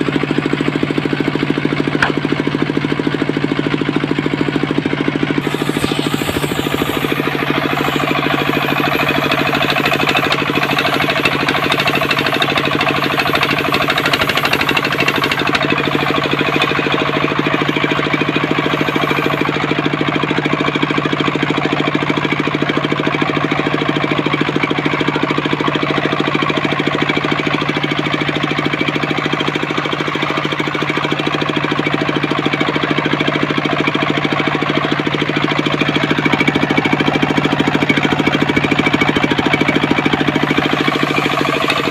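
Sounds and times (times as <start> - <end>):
engine-driven circular saw running: 0.0 - 41.9.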